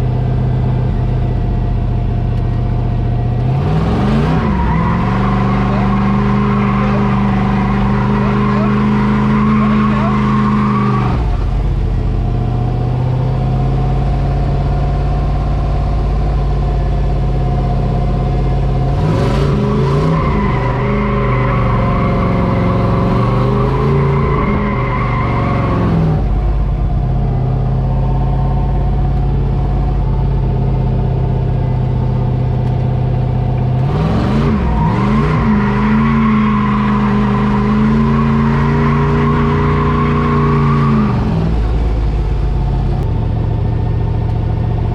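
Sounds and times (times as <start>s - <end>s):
truck engine revving: 0.0s - 44.9s.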